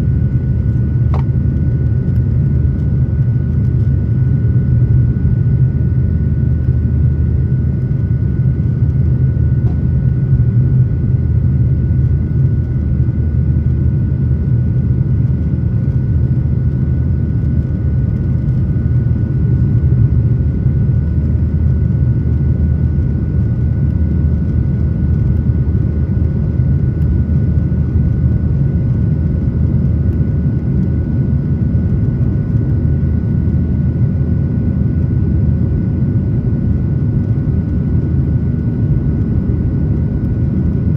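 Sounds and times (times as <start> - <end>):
airliner engine rumble: 0.0 - 40.9.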